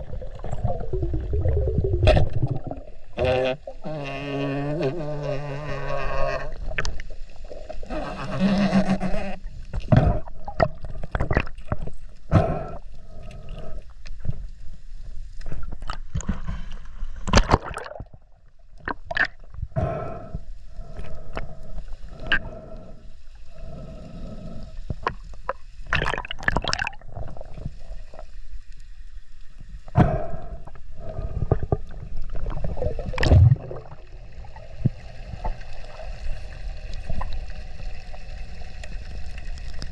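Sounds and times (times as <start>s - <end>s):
underwater gurgling: 0.0s - 14.6s, 15.4s - 39.9s.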